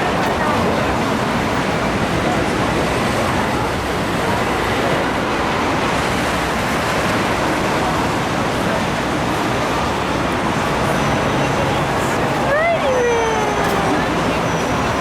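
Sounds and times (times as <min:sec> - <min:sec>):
car road and wind noise: 0:00.0 - 0:15.0.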